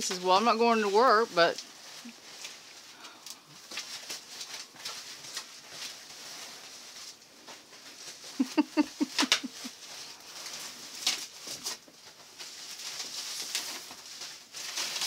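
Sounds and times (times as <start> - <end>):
plastic and foam wrap crinkling: 0.0 - 15.0.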